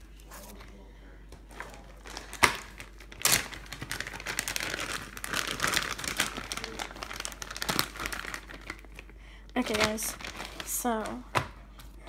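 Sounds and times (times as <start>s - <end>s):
plastic bag crinkling: 1.5s - 11.4s.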